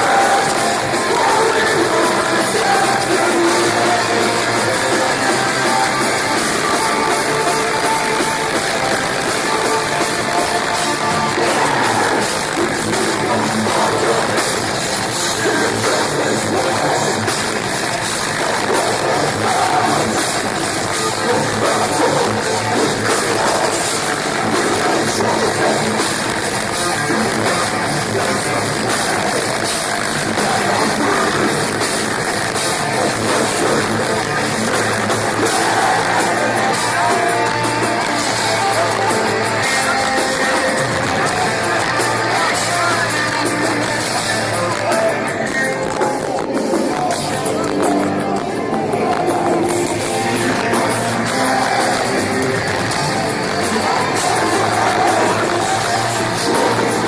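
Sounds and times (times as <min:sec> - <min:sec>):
distorted electric guitars: 0:00.0 - 0:57.0
drum kit: 0:00.0 - 0:57.0
vocals: 0:00.0 - 0:57.0.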